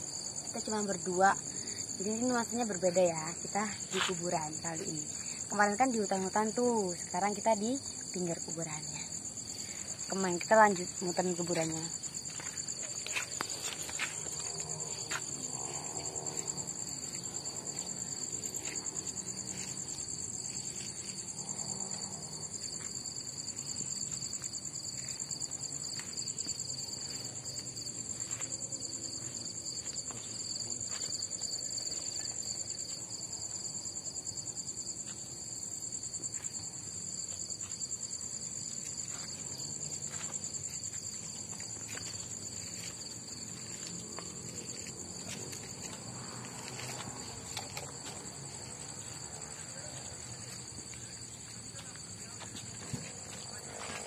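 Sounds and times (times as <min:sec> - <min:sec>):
crickets and night insects chorus: 0:00.0 - 0:54.0
high trilling insect voices: 0:00.0 - 0:54.0.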